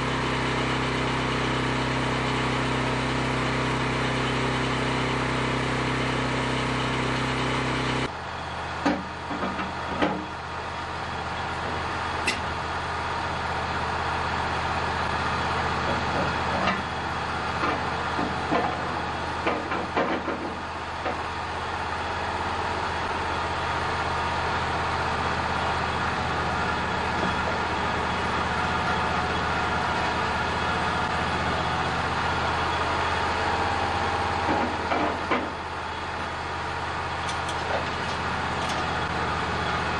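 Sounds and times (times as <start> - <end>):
bandmill engine idling: 0.0 - 39.9
sawmill engines running: 0.0 - 39.9.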